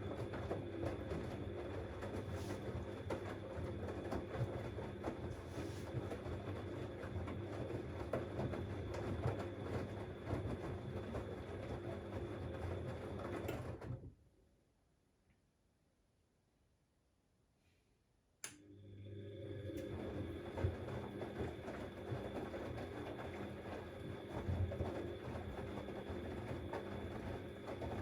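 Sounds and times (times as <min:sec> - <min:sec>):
washing machine running: 0:00.0 - 0:14.1, 0:18.5 - 0:28.0.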